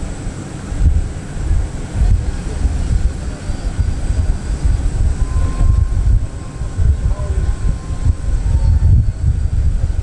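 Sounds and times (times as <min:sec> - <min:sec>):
jet engine high whine: 0:00.0 - 0:10.0
jet engine low rumble: 0:00.0 - 0:10.0
wind buffeting microphone: 0:00.0 - 0:10.0.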